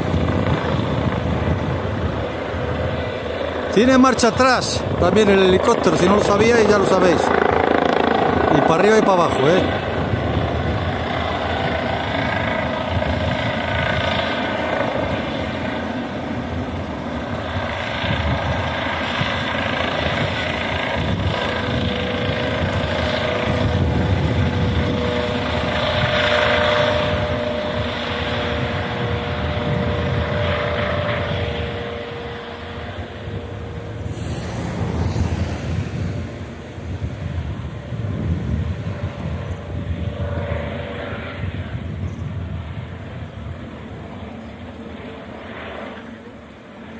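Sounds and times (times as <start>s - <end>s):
helicopter rotors and engine: 0.0s - 46.9s
steady whine: 0.0s - 46.9s.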